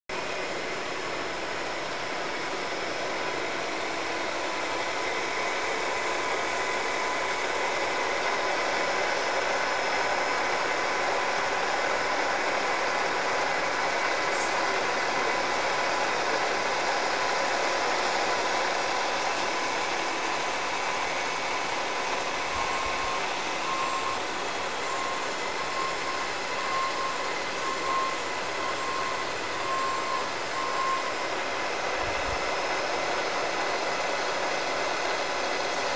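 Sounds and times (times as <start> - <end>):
workshop machinery humming: 0.3 - 35.8.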